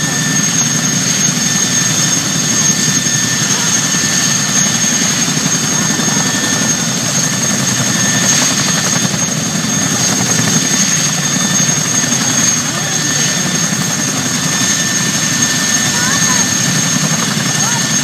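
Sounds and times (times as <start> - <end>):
helicopter rotor rumble: 0.0 - 18.0
high-pitched turbine whine: 0.0 - 18.0.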